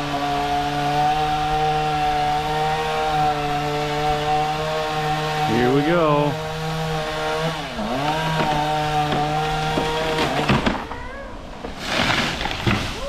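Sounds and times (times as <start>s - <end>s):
chainsaw cutting: 0.0s - 13.0s.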